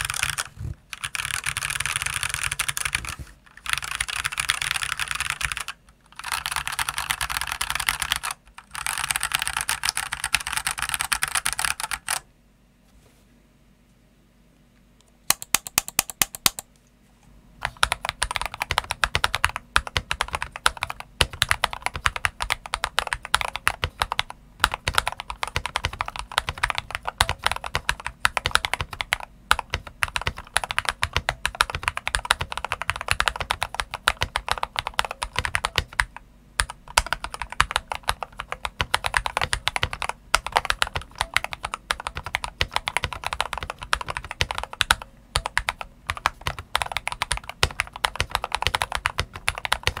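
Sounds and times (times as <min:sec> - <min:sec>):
fast typing on mechanical keyboard: 0:00.0 - 0:12.2, 0:15.3 - 0:16.6, 0:17.6 - 0:50.0.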